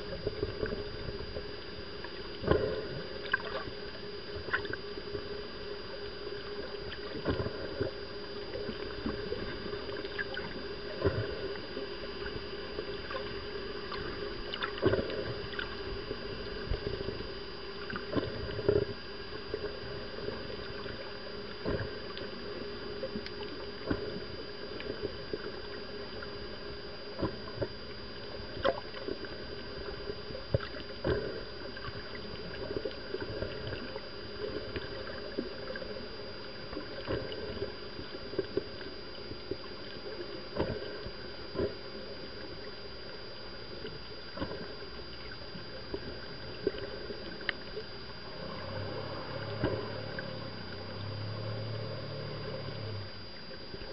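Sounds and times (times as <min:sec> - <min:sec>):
thin high whine: 0:00.0 - 0:53.9
underwater hum: 0:00.0 - 0:53.9.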